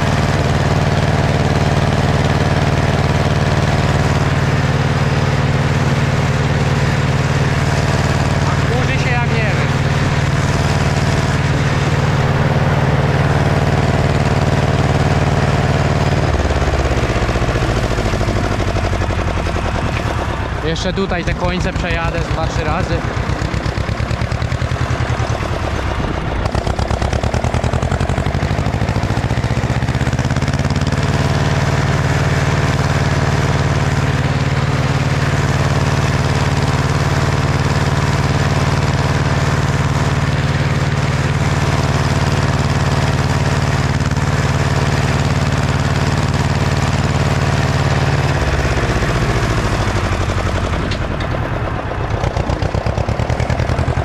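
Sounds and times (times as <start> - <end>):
tractor diesel engine: 0.0 - 54.0.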